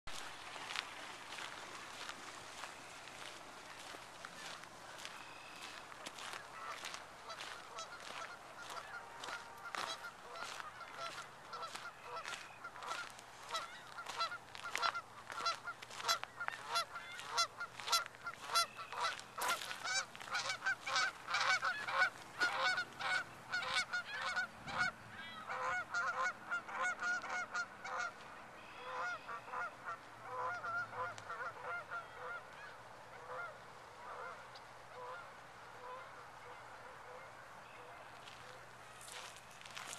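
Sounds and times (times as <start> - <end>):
geese honking: 2.7 - 39.9.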